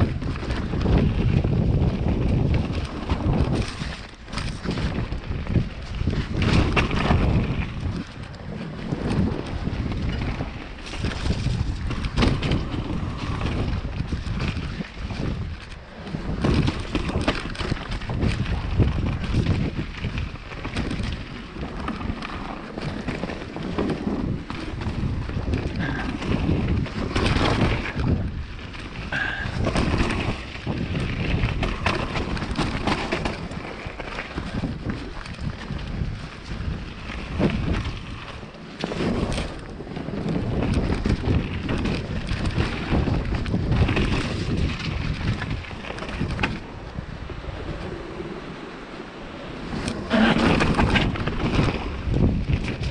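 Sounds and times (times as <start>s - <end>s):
bike knocks and rattles: 0.0s - 48.0s, 49.6s - 52.9s
tyres rolling over dirt: 0.0s - 52.9s
wind rumbling on microphone: 0.0s - 52.9s.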